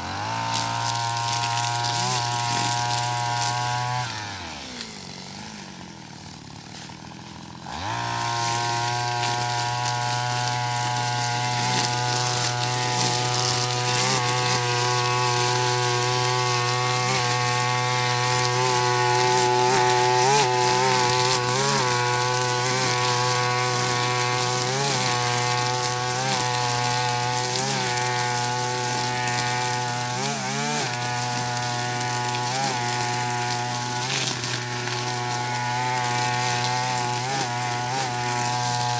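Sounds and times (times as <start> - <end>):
brush cutter engine revving: 0.0 - 38.9.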